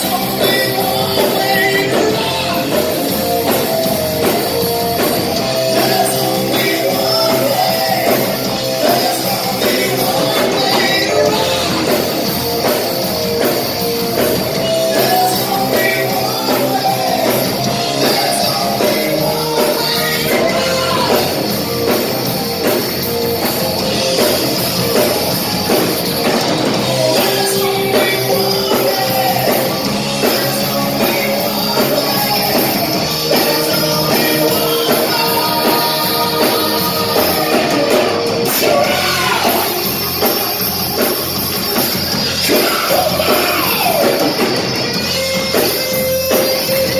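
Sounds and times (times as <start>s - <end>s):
hard rock music with singer: 0.0s - 46.9s.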